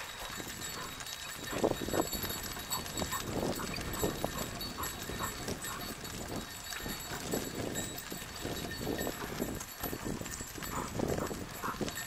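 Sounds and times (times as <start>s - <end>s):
cart rattling: 0.0s - 12.0s
dog feet tapping on concrete: 0.0s - 12.0s.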